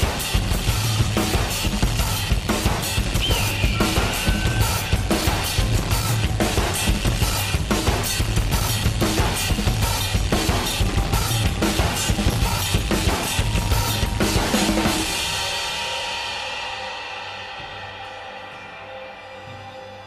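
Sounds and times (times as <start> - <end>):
fast drum kit beat: 0.0 - 18.1
backing music: 0.0 - 20.0.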